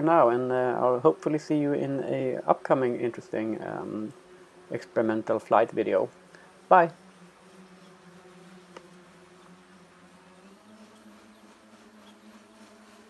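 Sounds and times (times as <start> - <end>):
distant electric rotorcraft buzzing: 0.0 - 13.0.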